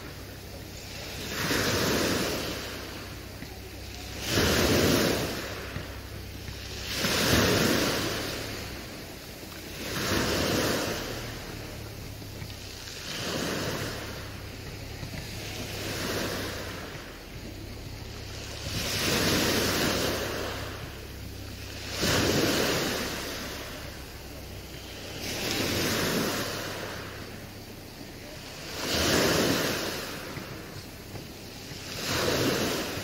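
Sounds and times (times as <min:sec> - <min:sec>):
low steady hum: 0:00.0 - 0:33.0
rhythmic rushing swells: 0:00.0 - 0:33.0.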